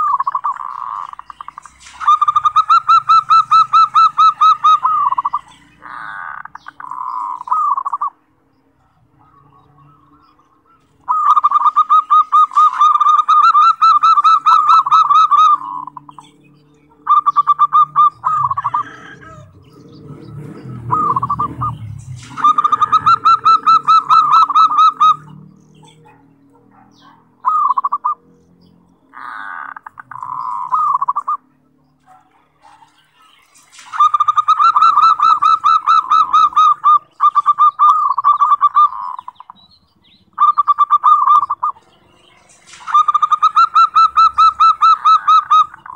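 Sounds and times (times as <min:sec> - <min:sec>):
dove trilled cooing: 0:00.0 - 0:45.9.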